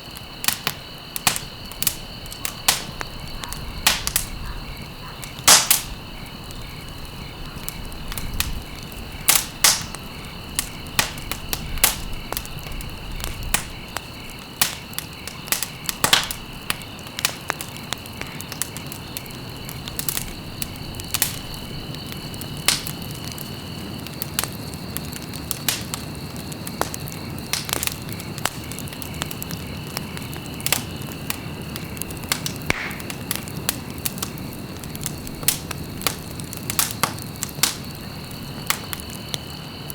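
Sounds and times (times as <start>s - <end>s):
low roar of flames: 0.0s - 39.9s
wood crackling and popping: 0.0s - 39.9s.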